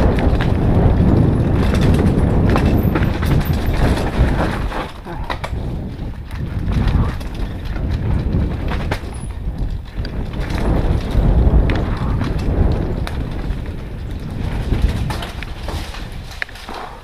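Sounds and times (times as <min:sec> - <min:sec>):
bike clattering over stones: 0:00.0 - 0:17.0
bike tyres rumbling on rocky trail: 0:00.0 - 0:17.0.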